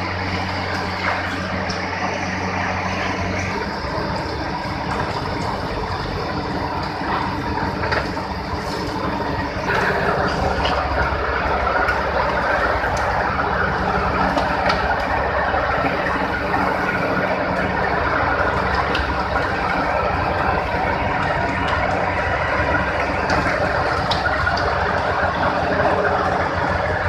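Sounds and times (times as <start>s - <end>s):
crushing mill machinery din: 0.0s - 27.0s.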